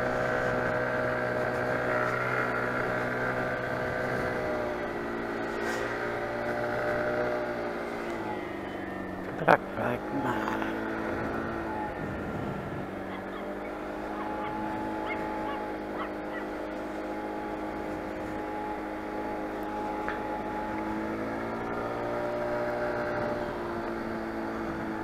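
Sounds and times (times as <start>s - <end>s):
scooter engine running: 0.0s - 25.0s
wind and road noise: 0.0s - 25.0s.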